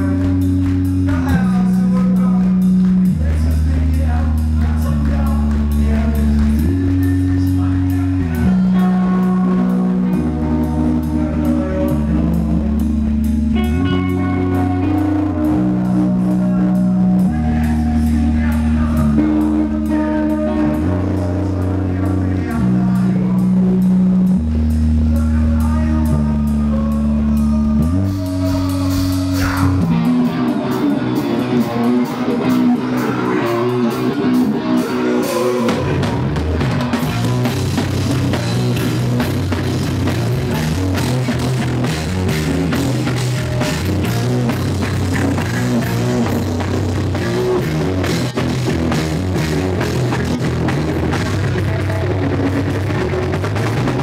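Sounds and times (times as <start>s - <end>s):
held low notes: 0.0s - 54.0s
live rock band: 0.0s - 54.0s.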